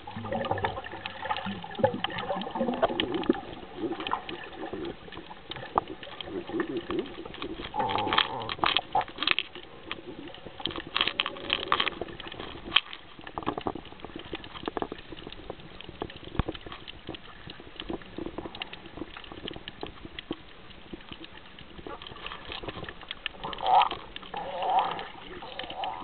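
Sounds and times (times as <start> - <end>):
crackling clicks underwater: 0.0 - 26.0
water splashing and bubbling: 0.0 - 26.0.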